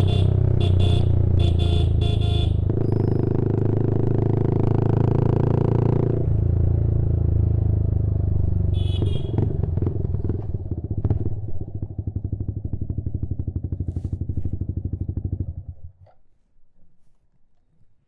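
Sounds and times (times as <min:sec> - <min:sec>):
motorcycle exhaust note: 0:00.0 - 0:16.0.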